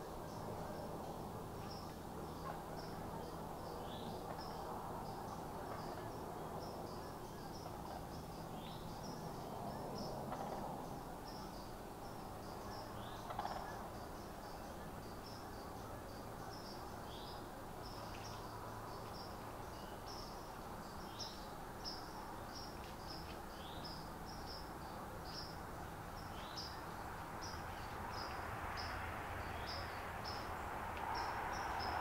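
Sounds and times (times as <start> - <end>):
low steady background hiss: 0.0 - 32.0
insects chirping: 0.1 - 32.0.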